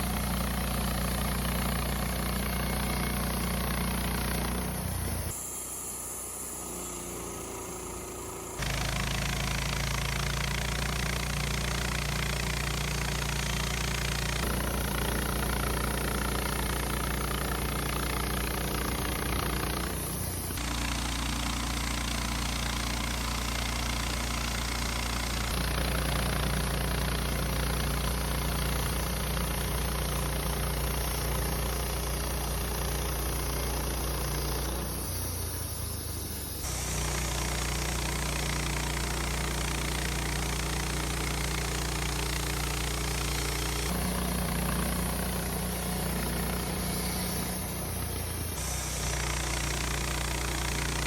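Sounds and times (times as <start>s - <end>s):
band sawmill engine droning: 0.0s - 51.0s.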